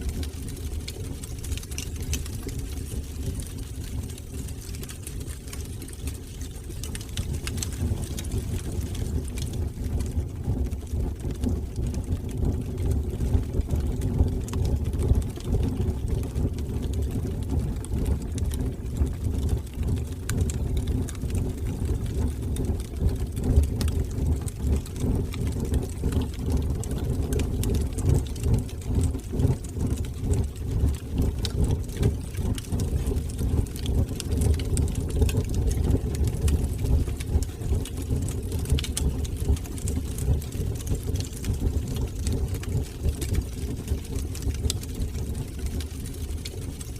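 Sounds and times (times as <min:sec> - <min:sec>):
fire crackles: 0:00.0 - 0:46.9
flames rumbling: 0:00.0 - 0:46.9.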